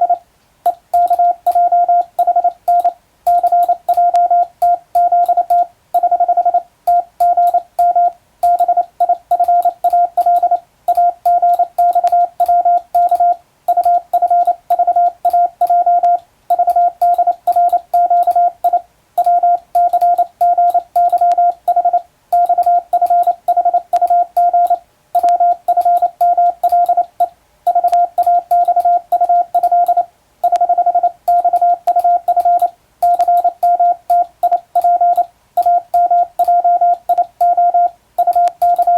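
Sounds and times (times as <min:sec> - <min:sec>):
morse code beeping: 0:00.0 - 0:38.9.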